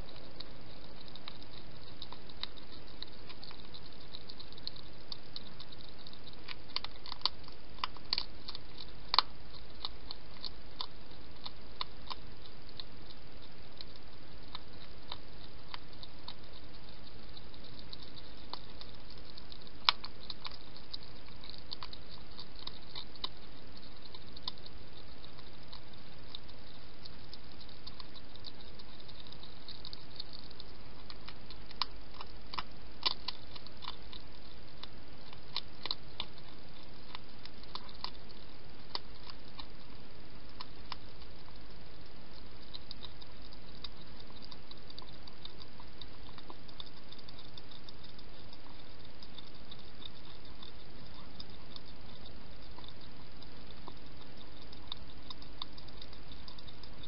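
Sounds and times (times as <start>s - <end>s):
hedgehog chewing clicks: 0.0s - 57.0s
steady hiss: 0.0s - 57.0s.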